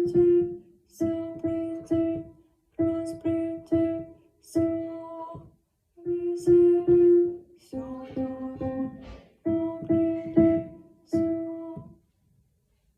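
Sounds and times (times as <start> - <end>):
folk song singing: 0.0 - 12.0
piano chords: 0.0 - 12.0.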